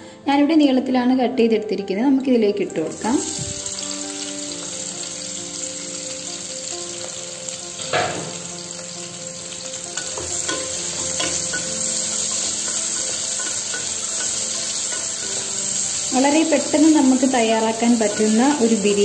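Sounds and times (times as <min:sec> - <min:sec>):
onions sizzling in hot oil: 0:02.9 - 0:19.0.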